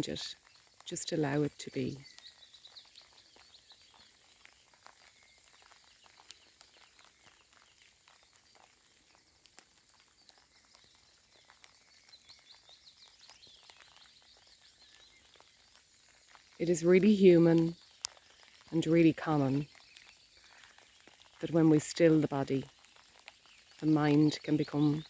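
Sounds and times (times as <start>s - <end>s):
light rain: 0.0s - 25.0s
small birds chirping: 0.0s - 25.0s.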